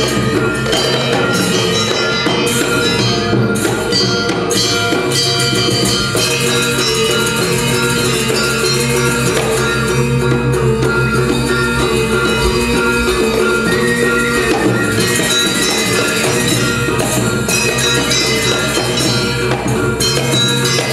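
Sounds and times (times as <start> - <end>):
drums pulsing: 0.0 - 20.9
gongs: 0.0 - 20.9
metallophones ringing: 0.0 - 20.9.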